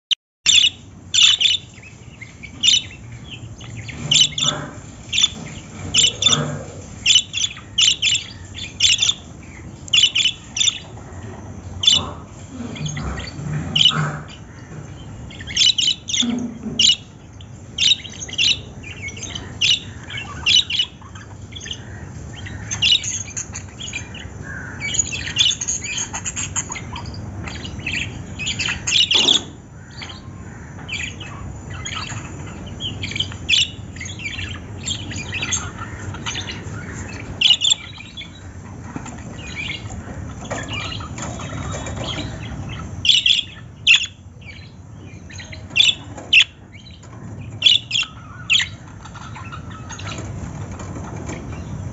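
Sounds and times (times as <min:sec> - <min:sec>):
lovebirds chirping and squawking: 0:00.5 - 0:51.9.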